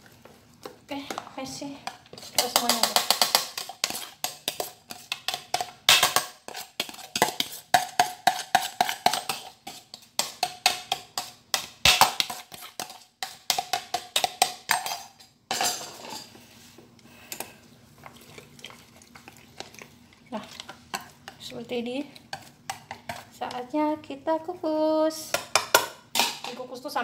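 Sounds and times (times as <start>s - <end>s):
soft stirring in plastic container: 0.0s - 5.8s, 6.4s - 14.3s, 16.3s - 24.7s.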